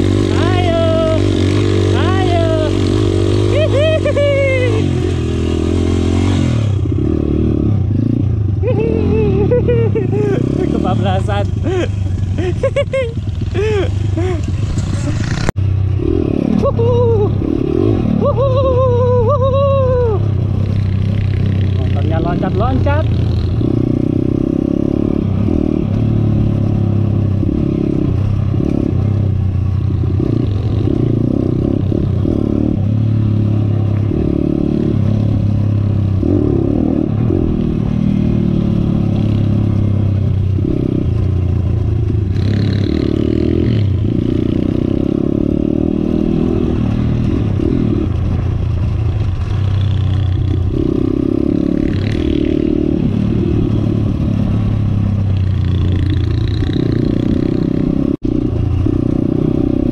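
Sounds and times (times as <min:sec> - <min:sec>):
dirt motorcycle engine revving: 0:00.0 - 0:59.9.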